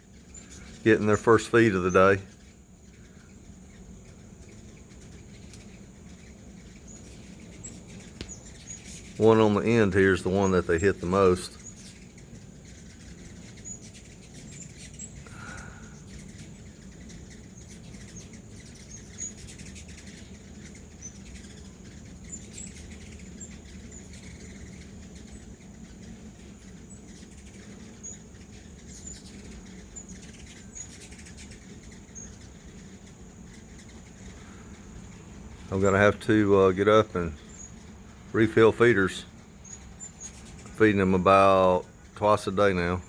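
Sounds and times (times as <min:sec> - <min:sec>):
high insect drone: 0:00.0 - 0:43.0
hummingbird chip calls: 0:00.0 - 0:43.0.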